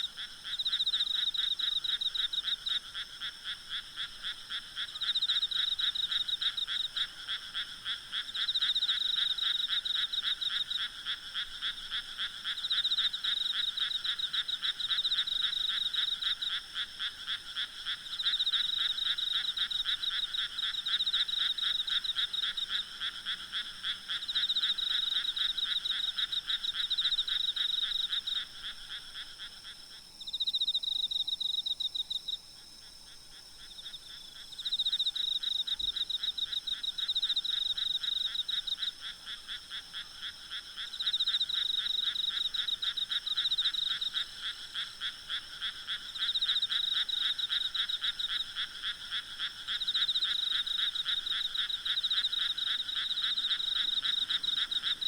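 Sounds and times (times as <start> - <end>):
frogs croaking: 0.0 - 55.0
insects trilling: 0.0 - 55.0.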